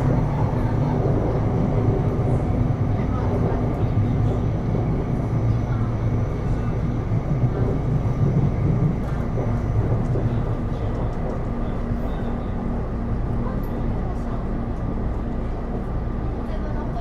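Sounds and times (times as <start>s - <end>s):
wheels rumbling on rails: 0.0s - 17.0s.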